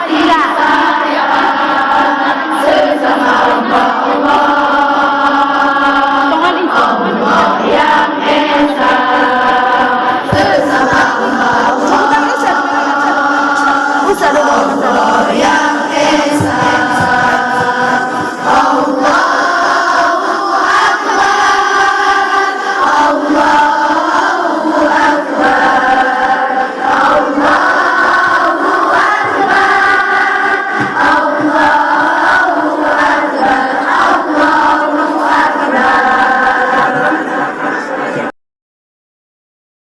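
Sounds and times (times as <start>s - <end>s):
choir singing: 0.0s - 38.3s.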